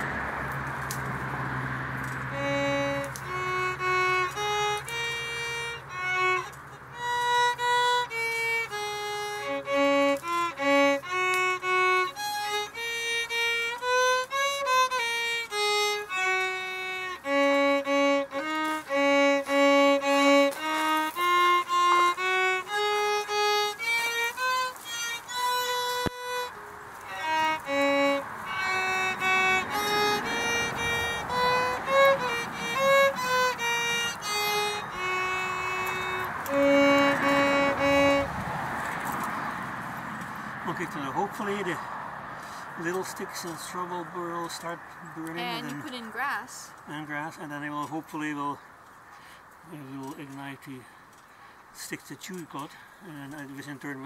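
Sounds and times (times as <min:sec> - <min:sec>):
violin melody: 0:02.0 - 0:42.0, 0:42.8 - 0:48.5.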